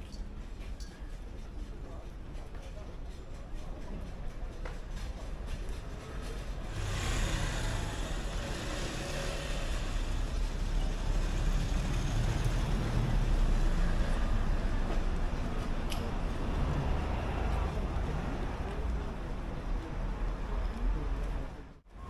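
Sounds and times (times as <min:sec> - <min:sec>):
vehicle engine rumble and road noise: 0:00.0 - 0:22.0.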